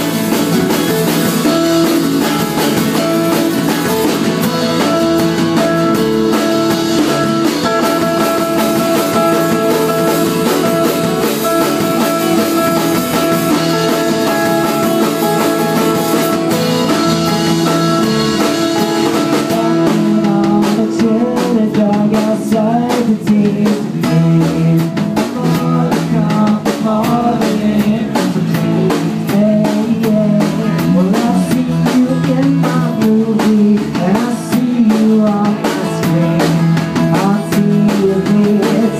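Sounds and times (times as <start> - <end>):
drum kit: 0.0 - 38.9
strummed acoustic guitars: 0.0 - 38.9
person singing: 4.6 - 38.9.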